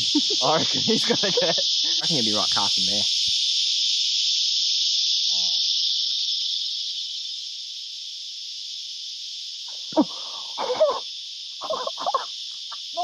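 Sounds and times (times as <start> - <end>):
cicada chorus drone: 0.0 - 13.0.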